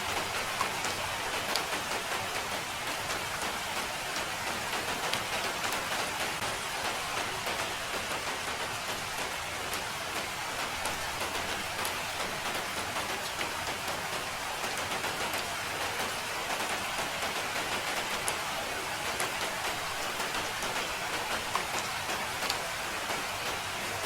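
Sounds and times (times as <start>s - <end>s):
raindrops pattering: 0.0s - 24.0s
steady rain hiss: 0.0s - 24.0s.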